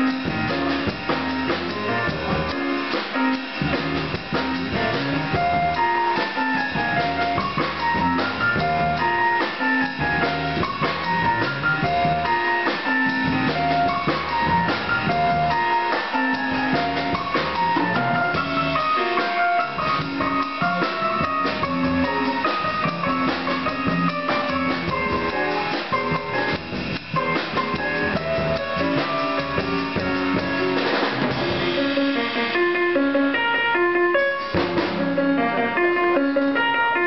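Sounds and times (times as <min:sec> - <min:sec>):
upright double bass: 0:00.0 - 0:32.4, 0:34.5 - 0:35.4
drum kit: 0:00.0 - 0:37.0
electric keyboard melody: 0:00.0 - 0:37.0.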